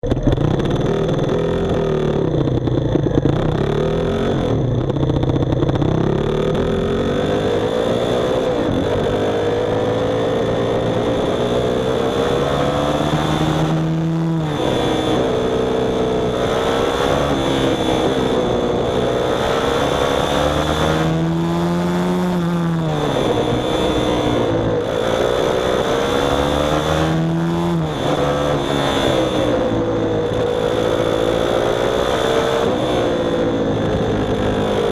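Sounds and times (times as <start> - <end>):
small engine revving: 0.0 - 34.9.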